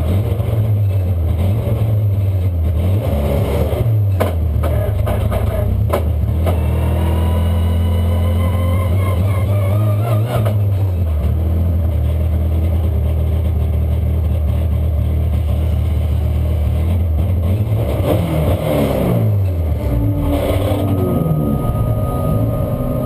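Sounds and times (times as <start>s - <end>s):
race car engine running: 0.0s - 23.0s.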